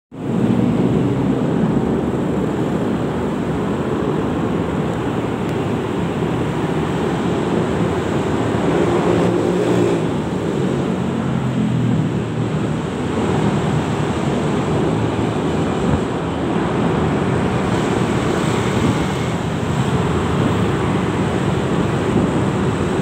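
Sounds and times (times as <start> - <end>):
city traffic: 0.1 - 23.0
wind on microphone: 0.2 - 23.0.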